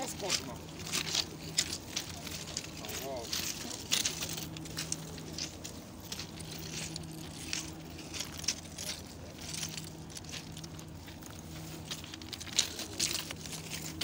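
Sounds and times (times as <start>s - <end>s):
footsteps crunching on stones: 0.0s - 14.0s
steady low hum: 0.0s - 14.0s.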